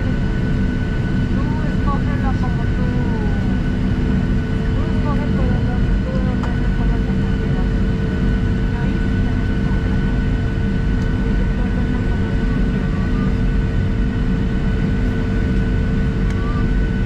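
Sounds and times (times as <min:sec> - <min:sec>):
high engine whine: 0:00.0 - 0:17.0
jet engines rumbling: 0:00.0 - 0:17.0.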